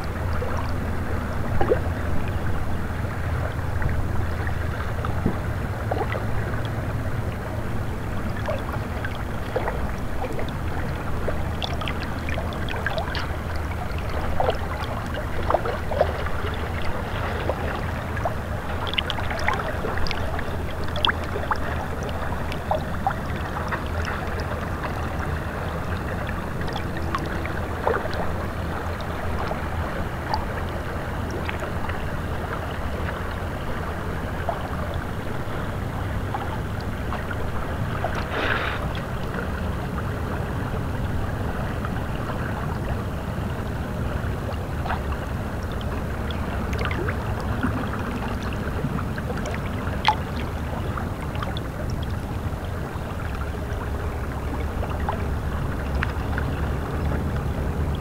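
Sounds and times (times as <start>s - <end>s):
river water lapping on rocks: 0.0s - 58.0s.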